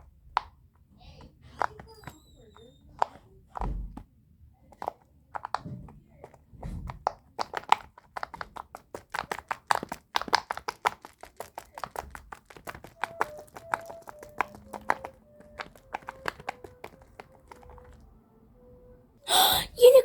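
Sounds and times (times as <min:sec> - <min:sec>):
clicks and taps of plastic toys: 0:00.0 - 0:18.1.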